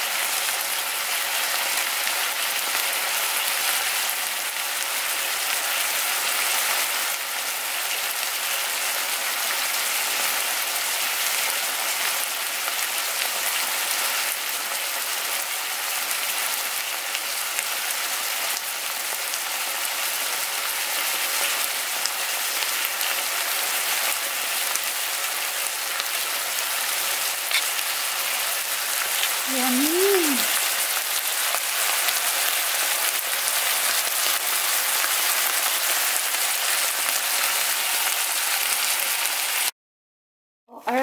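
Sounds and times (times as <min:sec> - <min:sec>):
food sizzling in a frying pan: 0:00.0 - 0:39.7.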